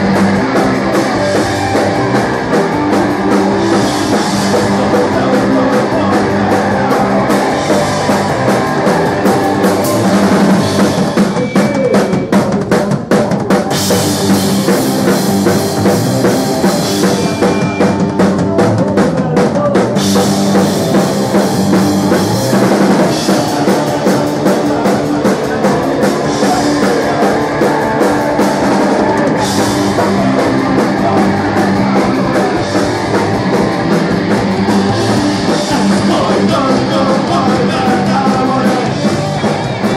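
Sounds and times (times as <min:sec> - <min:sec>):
bass guitar: 0:00.0 - 0:39.9
drum kit pounding: 0:00.0 - 0:39.9
electric guitars: 0:00.0 - 0:39.9.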